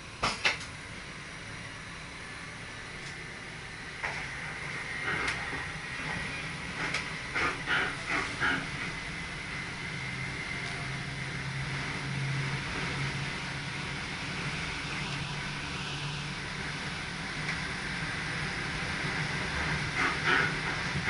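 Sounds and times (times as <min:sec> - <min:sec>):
electric train hum: 0:00.0 - 0:21.0
train rolling noise: 0:00.0 - 0:21.0.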